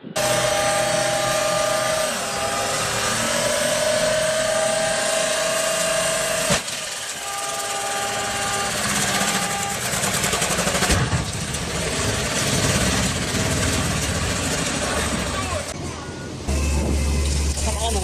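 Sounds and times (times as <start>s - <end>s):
machinery engines running: 0.0s - 18.0s.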